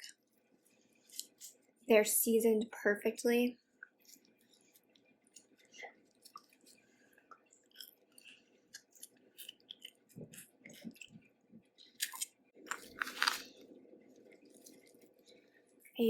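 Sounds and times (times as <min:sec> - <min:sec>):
person chewing crawfish: 0:00.0 - 0:01.7, 0:03.8 - 0:16.0.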